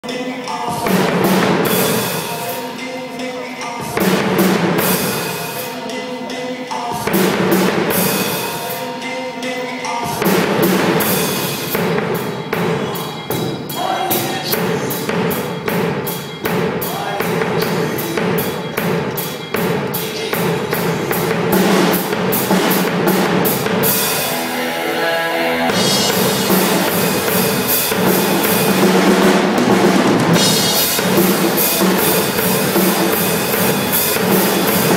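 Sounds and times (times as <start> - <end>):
drum kit playing: 0.0 - 34.9.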